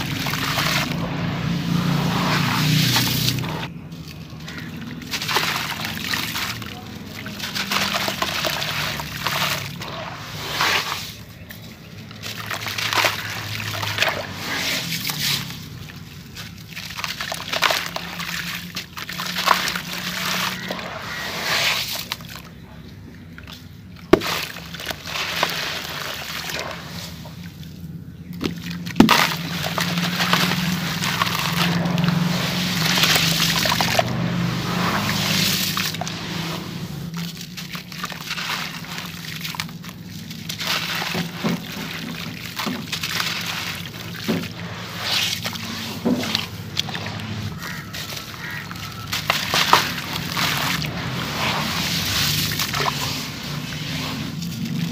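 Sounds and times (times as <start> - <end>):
gritty crumbling: 0.0 - 54.9
water sloshing and trickling: 0.0 - 54.9.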